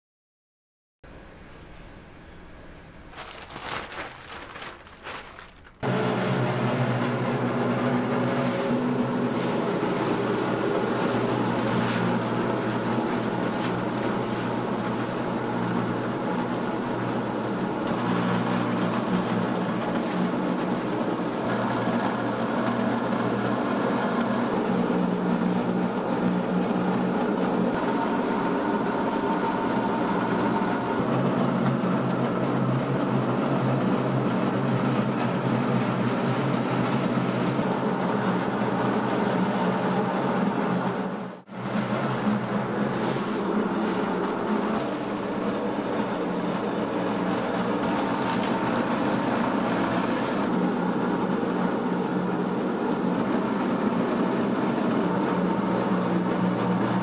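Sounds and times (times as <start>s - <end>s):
mechanical hum with low drone: 1.1s - 57.0s.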